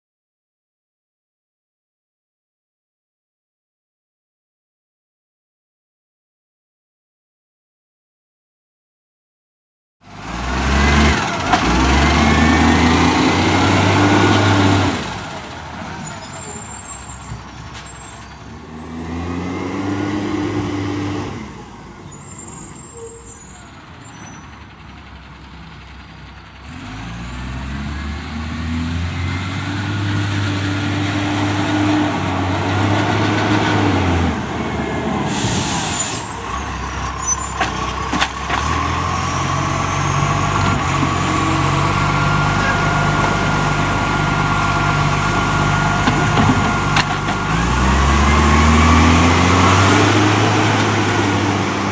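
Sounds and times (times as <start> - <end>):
diesel truck engine revving: 10.1 - 51.9.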